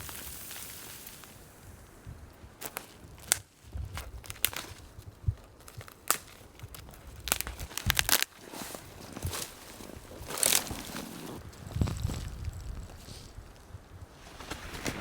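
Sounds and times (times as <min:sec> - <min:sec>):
crunching and crackling: 0:00.0 - 0:15.0.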